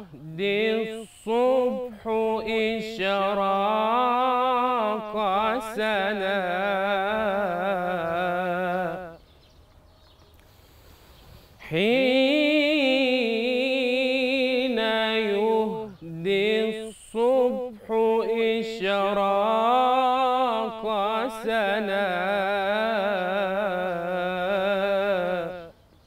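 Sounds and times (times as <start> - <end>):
man singing unaccompanied: 0.0 - 9.4, 11.6 - 26.0.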